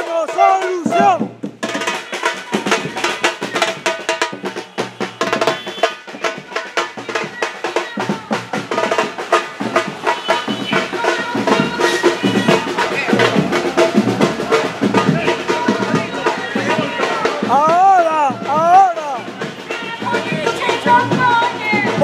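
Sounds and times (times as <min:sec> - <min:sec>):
fast drumming on snare and bass: 0:00.0 - 0:22.0.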